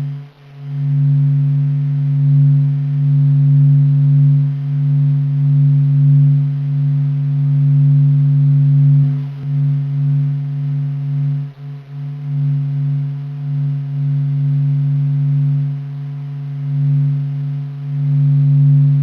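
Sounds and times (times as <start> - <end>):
low humming drone: 0.0 - 19.0.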